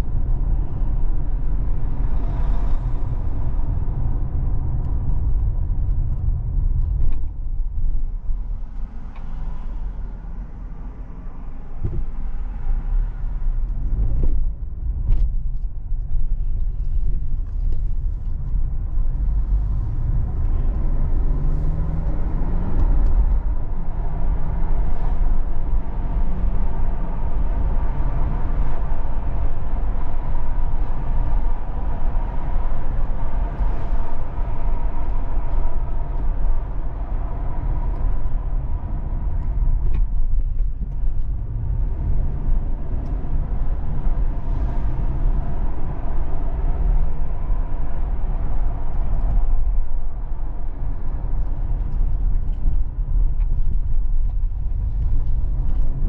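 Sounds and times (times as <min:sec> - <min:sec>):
car engine: 0:00.0 - 0:56.0
road rumble: 0:00.0 - 0:56.0.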